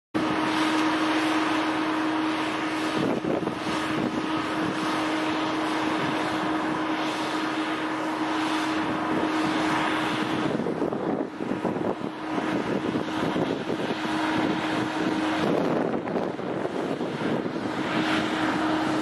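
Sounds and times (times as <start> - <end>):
propeller plane engine: 0.2 - 19.0
steady hum: 0.2 - 19.0
wind rumbling on microphone: 0.2 - 19.0.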